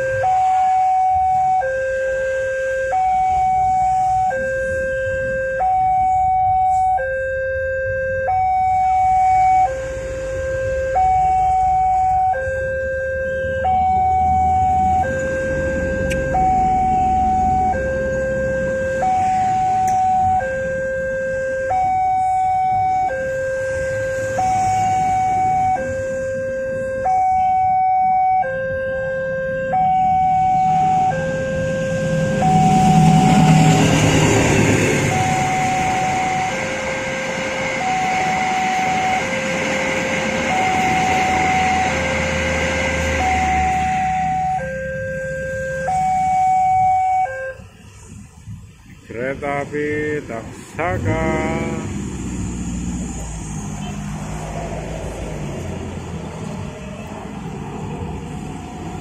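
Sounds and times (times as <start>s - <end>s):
two-tone crossing alarm: 0.0s - 47.8s.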